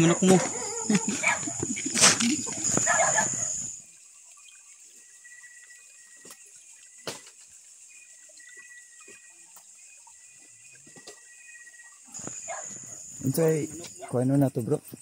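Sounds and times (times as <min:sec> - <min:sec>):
insects at night: 0:00.0 - 0:15.0.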